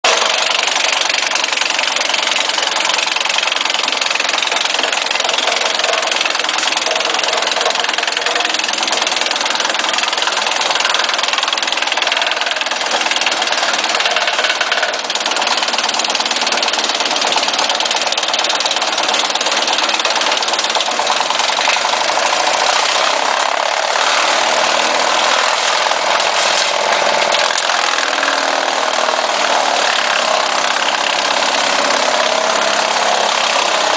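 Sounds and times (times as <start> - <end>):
tractor engine running: 0.0 - 33.9
wood chipper spinning: 0.0 - 33.9.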